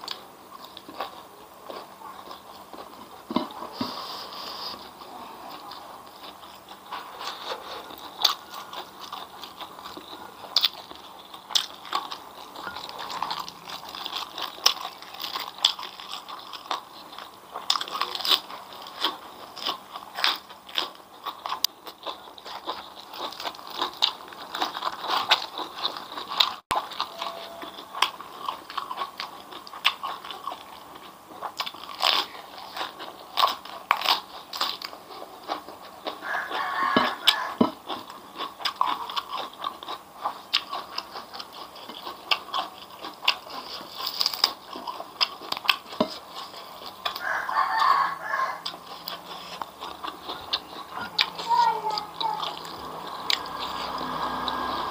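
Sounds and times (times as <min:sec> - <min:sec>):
crunching crisp food: 0:00.0 - 0:54.9.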